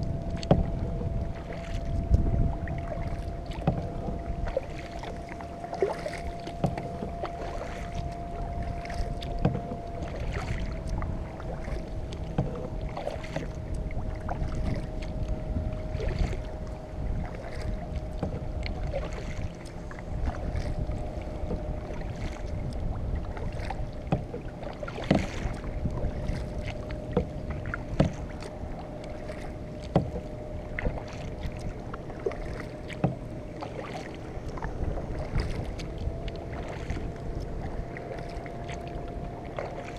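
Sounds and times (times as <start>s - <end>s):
kayak hull knocking: 0.0s - 16.4s, 17.0s - 39.9s
faint steady whine: 0.0s - 39.9s
low wind rumble: 0.0s - 39.9s
paddle splashing in water: 0.0s - 39.9s.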